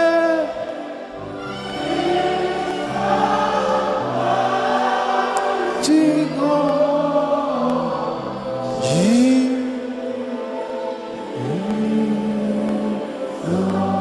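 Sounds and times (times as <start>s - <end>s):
congregation singing: 0.0s - 14.0s.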